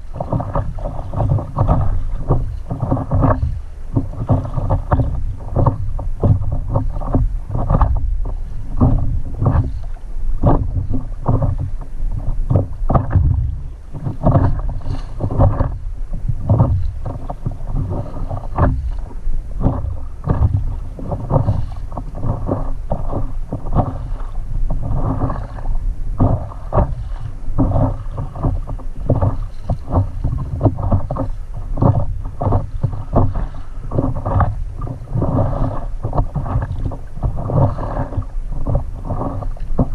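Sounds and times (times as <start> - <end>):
water lapping against paddleboard: 0.0 - 39.9.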